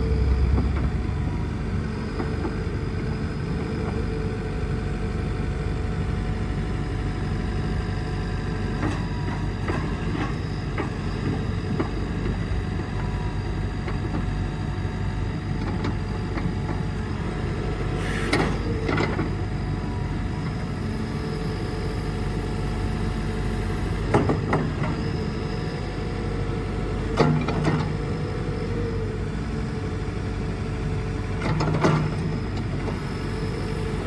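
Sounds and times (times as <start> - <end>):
diesel excavator engine running: 0.0 - 34.0.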